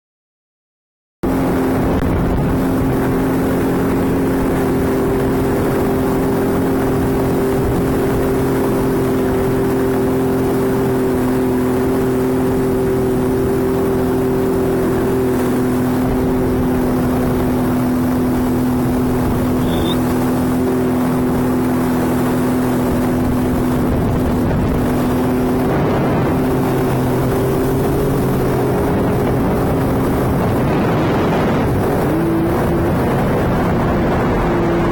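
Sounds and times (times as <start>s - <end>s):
jet ski engine running: 1.2s - 34.9s.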